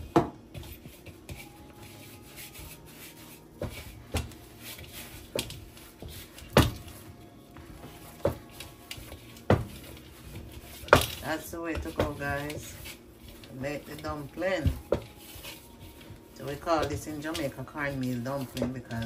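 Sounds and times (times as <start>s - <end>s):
hands kneading dough: 0.0s - 19.0s
dull thumps of dough: 3.6s - 19.0s.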